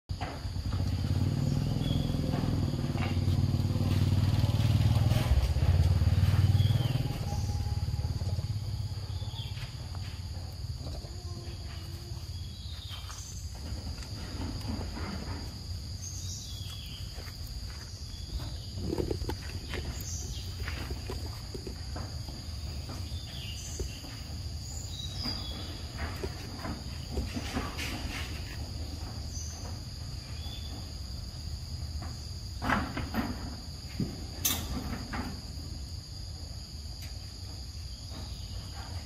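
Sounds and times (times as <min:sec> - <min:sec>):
vehicle engine running: 0:00.1 - 0:32.3.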